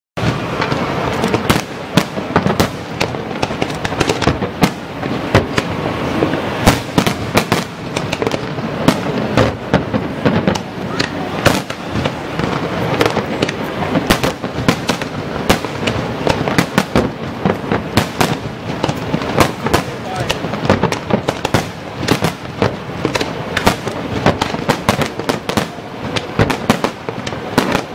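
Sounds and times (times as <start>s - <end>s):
fireworks rumble and crackle: 0.2s - 27.9s.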